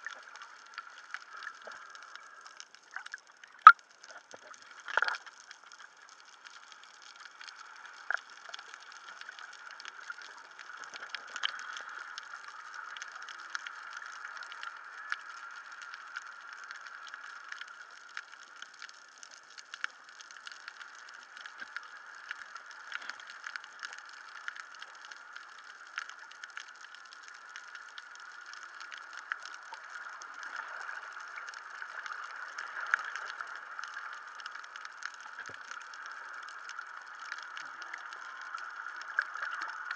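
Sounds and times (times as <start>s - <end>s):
crackle of small clicks: 0.0s - 39.9s
muffled underwater hiss: 0.0s - 39.9s.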